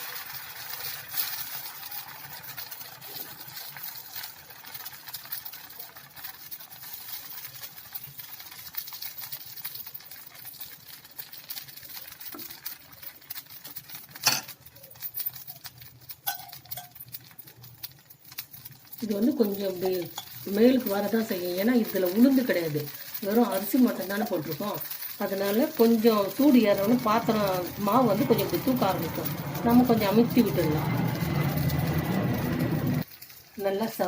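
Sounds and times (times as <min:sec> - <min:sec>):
batter sizzling on a griddle: 0:00.0 - 0:34.0
crackling pops: 0:00.0 - 0:34.0.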